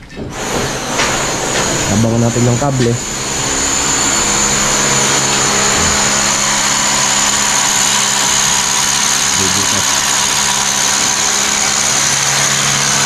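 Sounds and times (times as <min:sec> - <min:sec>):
small motor whining and humming: 0:00.3 - 0:13.0.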